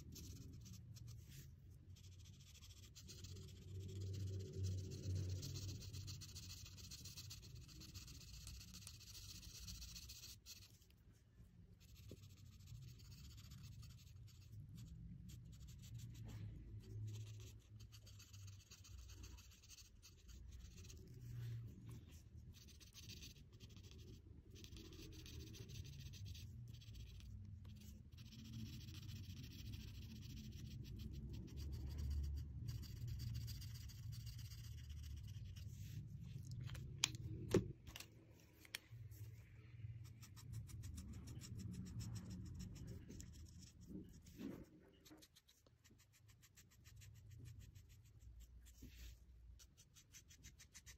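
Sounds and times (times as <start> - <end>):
marker scratching on paper: 0.0 - 10.9, 11.7 - 38.0, 38.7 - 50.9.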